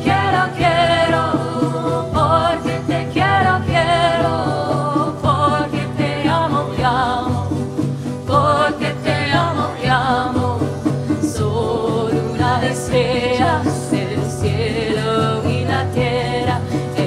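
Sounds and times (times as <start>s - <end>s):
hand drums: 0.0s - 17.0s
wordless vocal melody: 0.0s - 17.0s.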